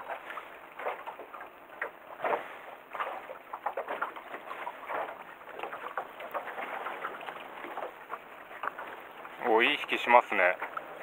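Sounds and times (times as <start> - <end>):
small waves lapping against boat hull: 0.0 - 11.0.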